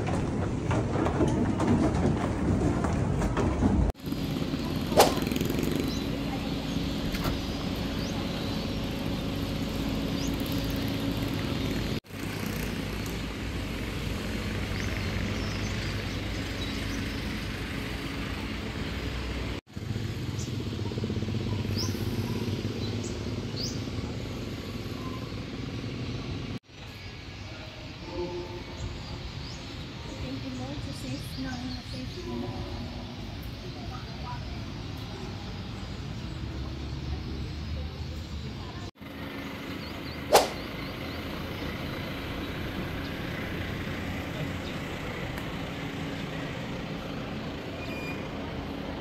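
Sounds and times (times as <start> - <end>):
traffic noise: 0.0 - 49.0.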